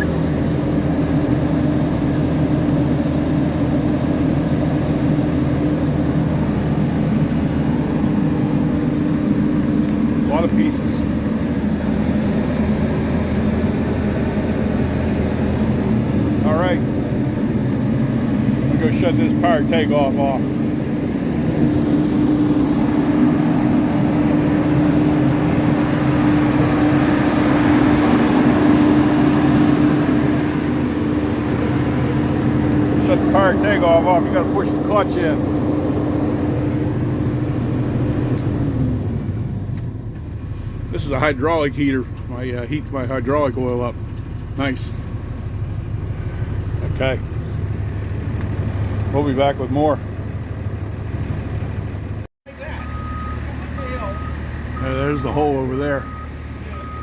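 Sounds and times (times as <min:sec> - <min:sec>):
hydraulic pump hum: 0:00.0 - 0:57.0
truck engine droning: 0:00.0 - 0:57.0.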